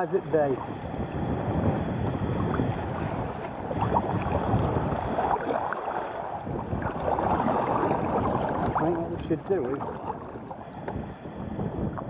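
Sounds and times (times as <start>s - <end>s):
water splashing around kayak: 0.0s - 12.0s
wind buffeting microphone: 0.0s - 12.0s.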